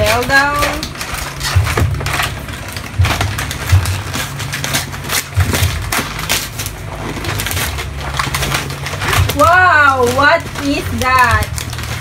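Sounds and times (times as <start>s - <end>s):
wrapping paper tearing: 0.0s - 12.0s.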